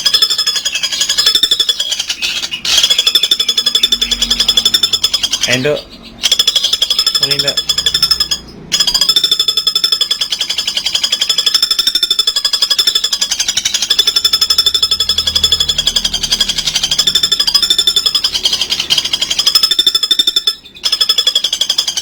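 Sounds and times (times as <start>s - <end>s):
bird rattling trill: 0.0s - 22.0s.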